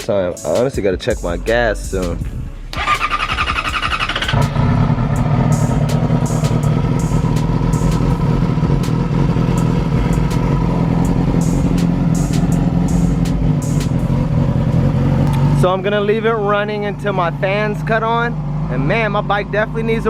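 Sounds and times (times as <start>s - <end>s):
motorcycle engine starting and idling: 2.3s - 20.0s.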